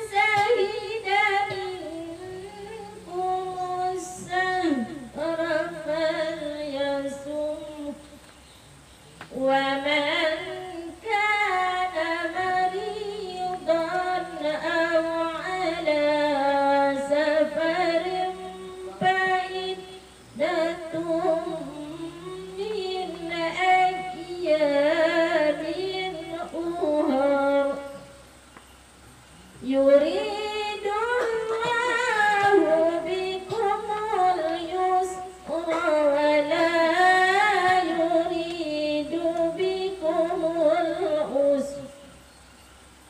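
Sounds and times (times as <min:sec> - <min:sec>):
woman chanting melodically: 0:00.0 - 0:28.5, 0:29.5 - 0:42.2.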